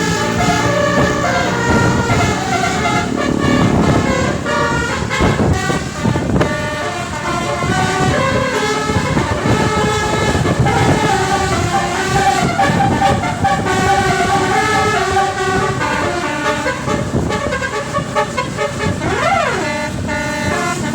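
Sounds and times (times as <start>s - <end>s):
engine and road rumble: 0.0s - 20.9s
multi-tone bus horn tune: 0.0s - 20.9s.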